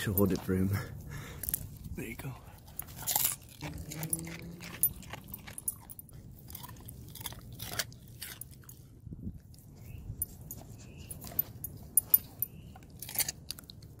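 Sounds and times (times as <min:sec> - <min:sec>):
dog crunching cucumber: 0:02.4 - 0:14.0.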